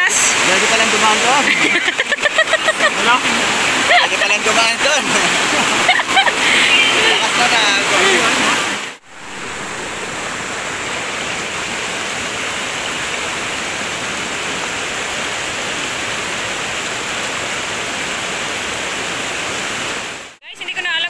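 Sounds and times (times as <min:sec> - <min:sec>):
waterfall pouring: 0:00.0 - 0:20.4.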